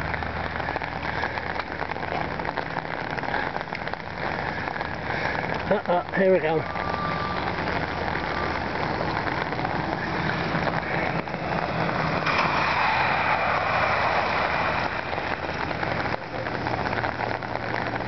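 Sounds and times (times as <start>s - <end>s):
steady rain falling: 0.0s - 18.0s
tyres hissing through water: 0.0s - 18.0s.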